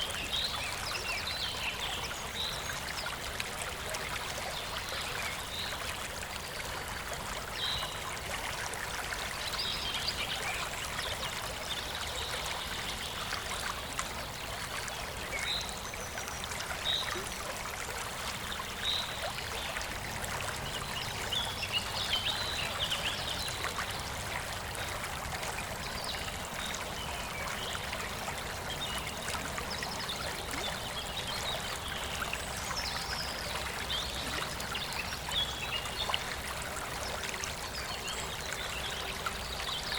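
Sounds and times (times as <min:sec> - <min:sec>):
small stream babbling: 0:00.0 - 0:39.9.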